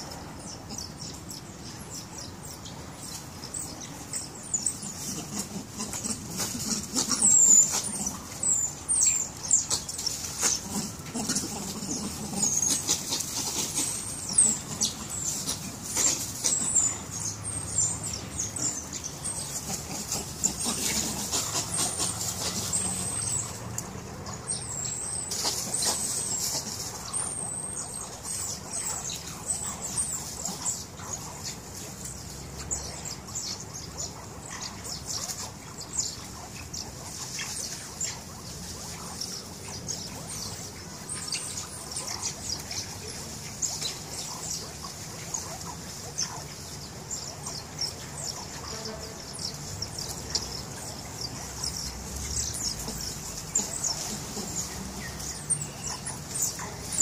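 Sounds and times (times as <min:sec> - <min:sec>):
scratching in dry leaves: 0:00.1 - 0:57.0.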